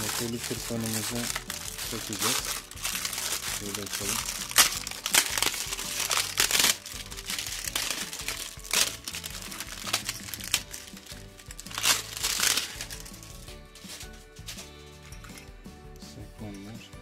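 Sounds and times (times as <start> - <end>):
plastic wrapping crinkling: 0.0 - 14.7
background music: 0.0 - 17.0.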